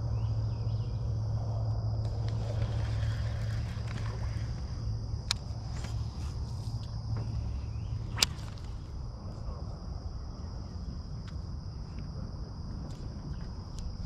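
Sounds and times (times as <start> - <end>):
insects buzzing: 0.0 - 14.0
low steady rumble: 0.0 - 14.0.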